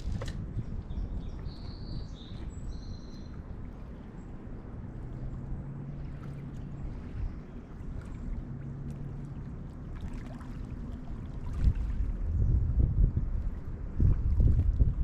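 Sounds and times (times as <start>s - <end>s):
river water running: 0.0s - 15.0s
steady low hum: 0.0s - 15.0s.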